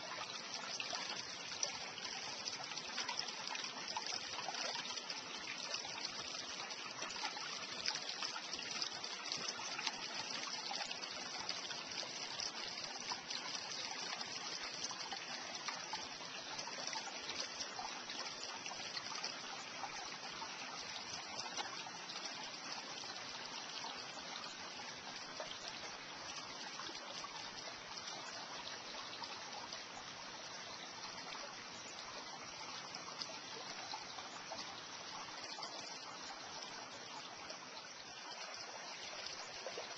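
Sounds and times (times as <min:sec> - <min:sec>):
creek water trickling over rocks: 0:00.0 - 0:39.9.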